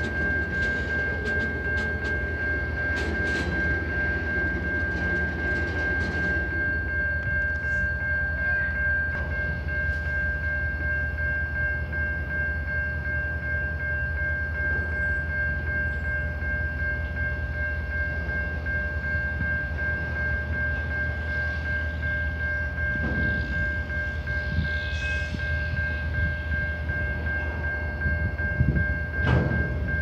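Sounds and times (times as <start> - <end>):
crossing warning bell ringing: 0.0 - 30.0
train wheels rumbling on rails: 0.0 - 30.0.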